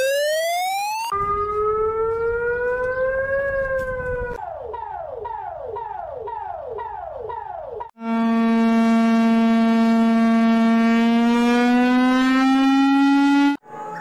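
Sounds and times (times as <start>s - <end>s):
steady low alarm tone: 0.0s - 14.0s
whooping alarm: 0.0s - 14.0s.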